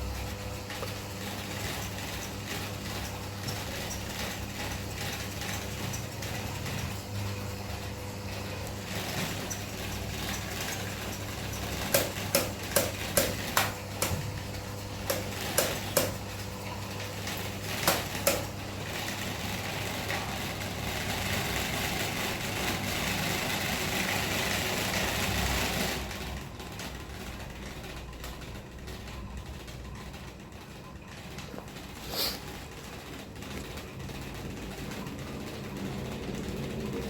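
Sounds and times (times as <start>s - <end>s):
electric fan humming: 0.0s - 37.0s.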